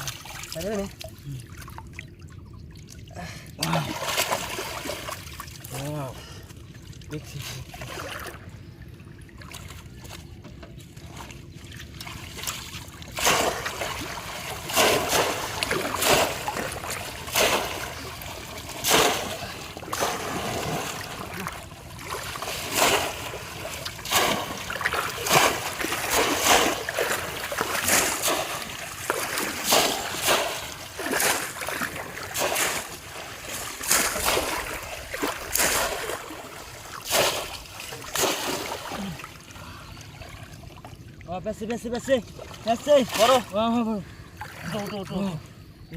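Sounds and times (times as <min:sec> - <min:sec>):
splashing in shallow water: 0:00.0 - 0:41.3, 0:42.1 - 0:45.5.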